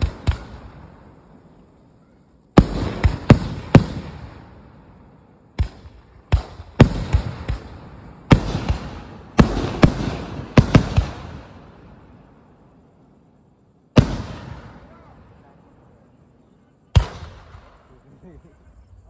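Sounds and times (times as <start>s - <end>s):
fireworks bursting overhead: 0.0s - 13.2s, 13.8s - 18.5s.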